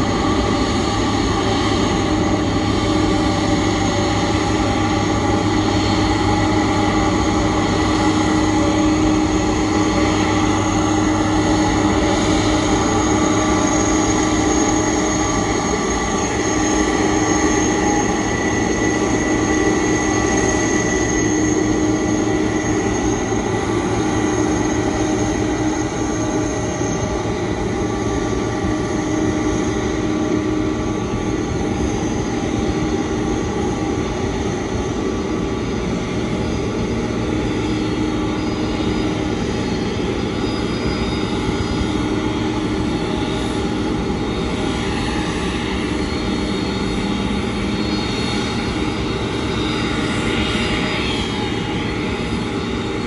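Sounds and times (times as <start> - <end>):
jet engines idling: 0.0 - 53.0.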